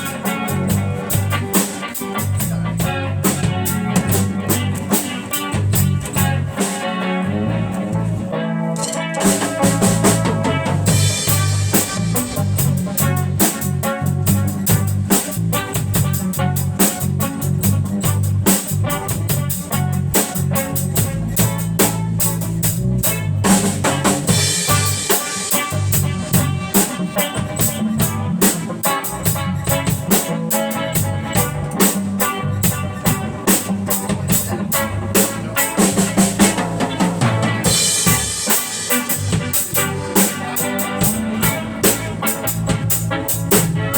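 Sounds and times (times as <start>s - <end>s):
bass guitar line: 0.0s - 43.9s
drum kit beat: 0.0s - 43.9s
guitar: 0.0s - 43.9s.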